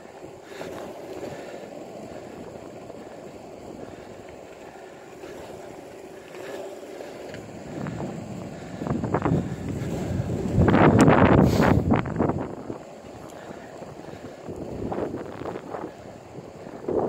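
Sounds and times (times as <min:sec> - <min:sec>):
longboard wheels rolling on asphalt: 0:00.0 - 0:17.0
wind buffeting microphone: 0:00.0 - 0:17.0.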